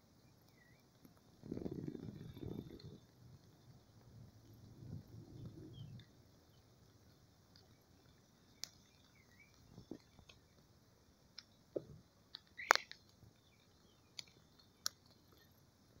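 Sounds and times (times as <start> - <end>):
faint clicks and crackles: 0.0 - 16.0.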